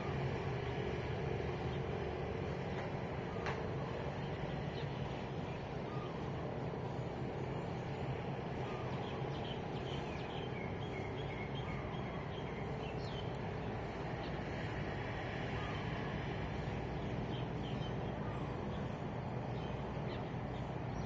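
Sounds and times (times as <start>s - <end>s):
distant road traffic hum: 0.0s - 21.0s
birds chirping: 3.2s - 14.7s, 15.4s - 21.0s.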